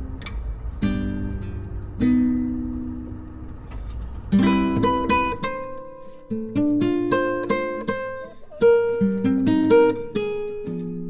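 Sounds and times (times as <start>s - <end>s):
plucked acoustic guitar melody: 0.0s - 11.0s.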